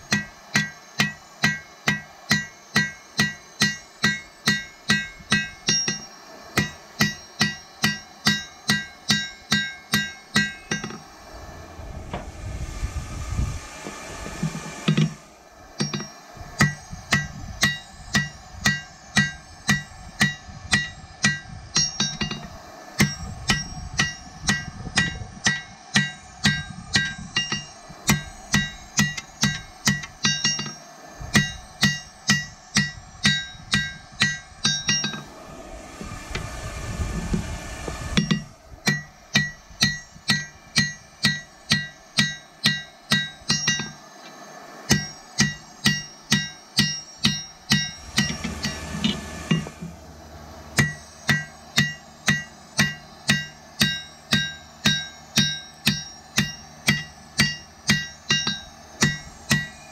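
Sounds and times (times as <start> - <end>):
hammer ringing on anvil: 0.0 - 11.0, 15.8 - 35.3, 38.2 - 44.0, 44.9 - 49.7, 50.8 - 59.9
steady rushing noise: 0.0 - 59.9.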